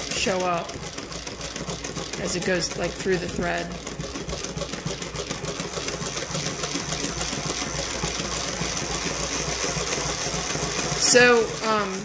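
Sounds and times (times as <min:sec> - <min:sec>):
embroidery machine clattering: 0:00.0 - 0:12.0.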